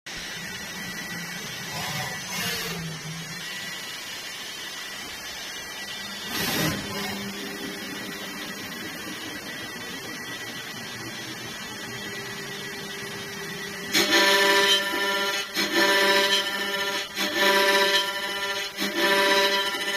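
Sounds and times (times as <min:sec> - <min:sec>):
loud pitched whine of tool cutting wood: 0:00.1 - 0:19.9
machine electrical hum and whine: 0:00.1 - 0:19.9.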